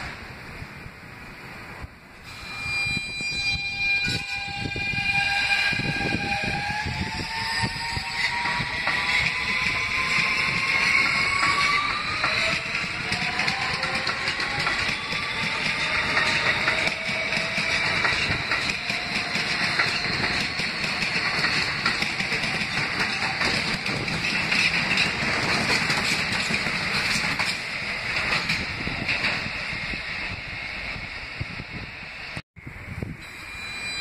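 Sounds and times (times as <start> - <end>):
subway train wheels rumbling: 0.0 - 34.0.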